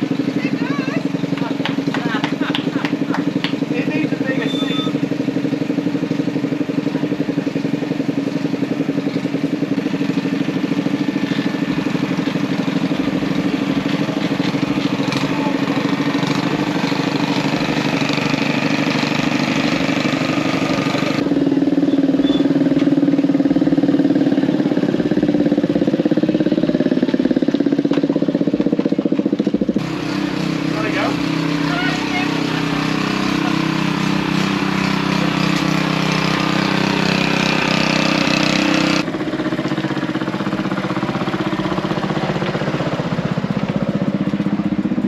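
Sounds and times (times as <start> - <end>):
small engine running: 0.0 - 45.0.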